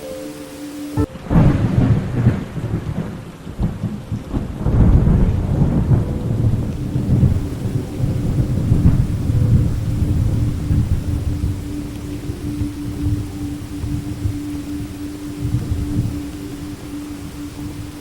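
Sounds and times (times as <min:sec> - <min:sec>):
steady rain: 0:00.0 - 0:18.0
thunderclap rolling into rumble: 0:01.0 - 0:18.0.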